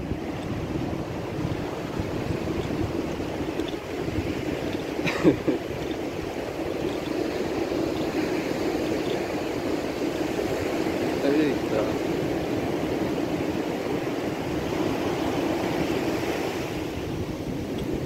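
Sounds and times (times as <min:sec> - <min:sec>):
ocean surf washing: 0:00.0 - 0:18.0
wind on microphone: 0:00.0 - 0:18.0.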